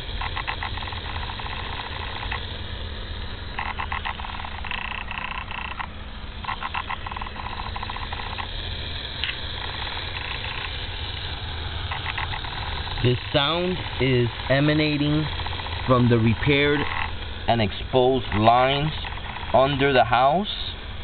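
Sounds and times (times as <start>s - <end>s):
rapid pulsing chatter in pipe: 0.0s - 21.0s
water pipe low rumble: 0.0s - 21.0s.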